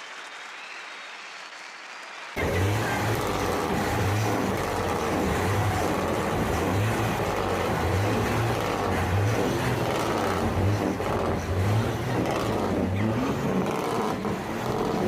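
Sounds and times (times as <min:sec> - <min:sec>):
diesel truck engine running: 0:02.4 - 0:15.0.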